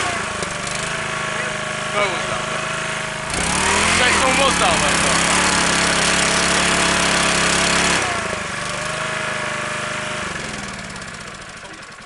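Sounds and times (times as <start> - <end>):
petrol generator engine running: 0.0 - 12.0.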